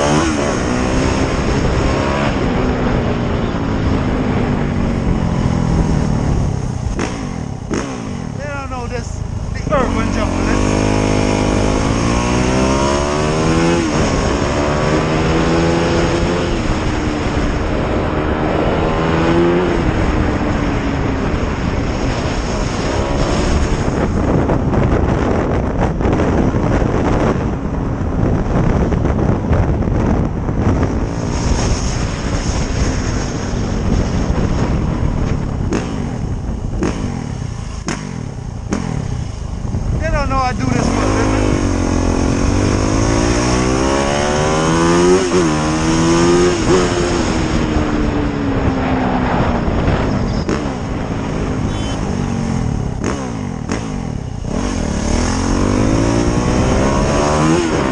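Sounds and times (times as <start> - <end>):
vehicle engine accelerating: 0.0 - 57.9
wind and road noise: 0.0 - 57.9.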